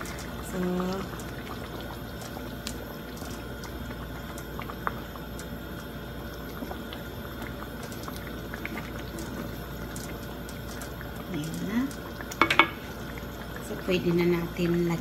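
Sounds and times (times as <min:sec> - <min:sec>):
thick sauce bubbling: 0:00.0 - 0:15.0.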